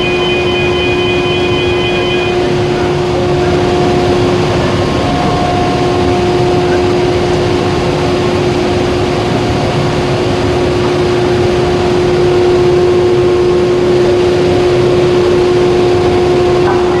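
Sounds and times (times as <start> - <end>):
mid-pitched hum: 0.0 - 17.0.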